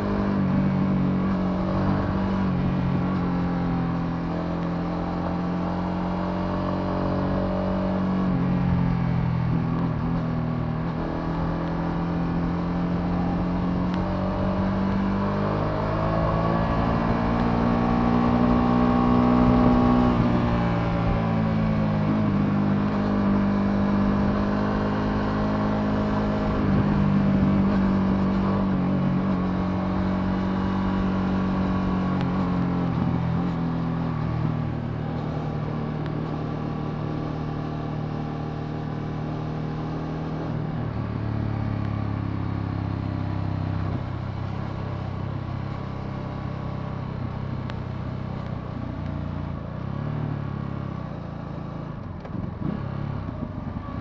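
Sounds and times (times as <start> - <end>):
motorcycle engine running: 7.1 - 54.0.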